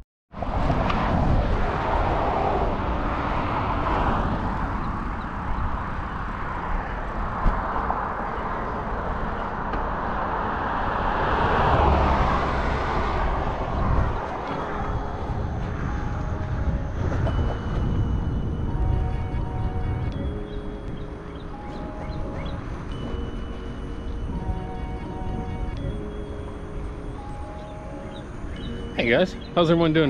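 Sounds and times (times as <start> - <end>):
wind noise on microphone: 0.3 - 29.6
road traffic: 0.3 - 30.0.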